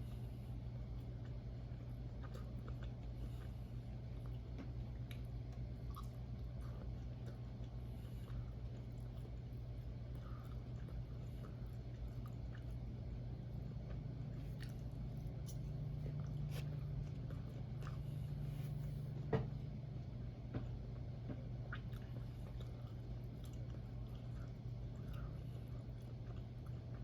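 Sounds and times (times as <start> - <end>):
chewing soft food: 0.0 - 27.0
steady low hum: 0.0 - 27.0.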